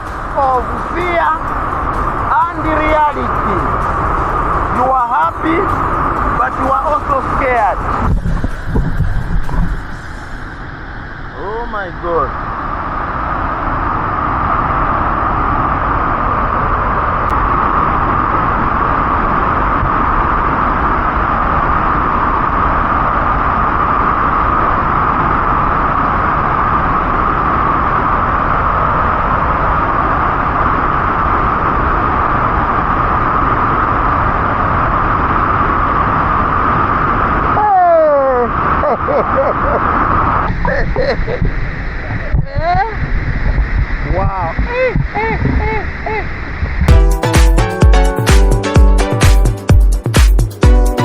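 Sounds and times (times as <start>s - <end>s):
waterfall roaring: 0.0s - 47.4s.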